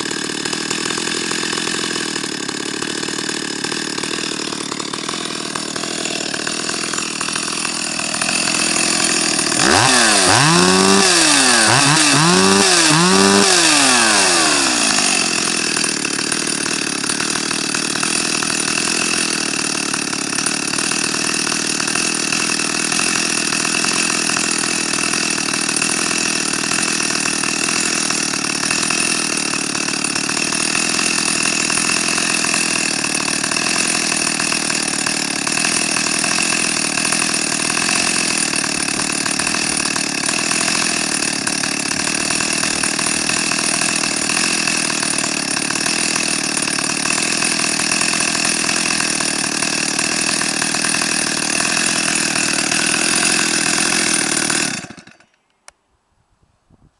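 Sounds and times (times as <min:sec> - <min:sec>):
chainsaw engine idling and revving: 0:00.0 - 0:55.8.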